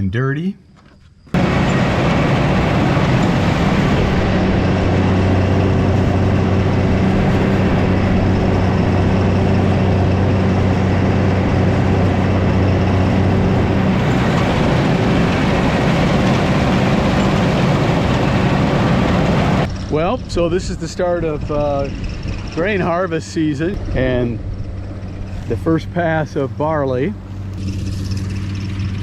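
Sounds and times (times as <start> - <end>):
harvester engine running: 1.3 - 29.0.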